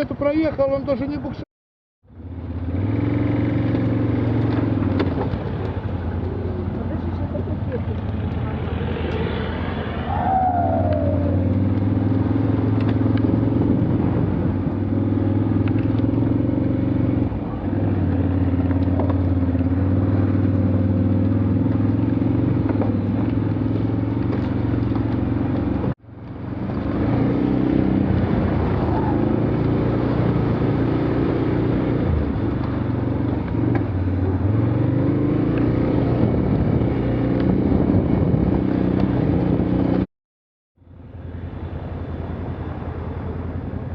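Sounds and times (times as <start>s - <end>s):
off-road vehicle engine driving through mud: 2.2s - 40.1s.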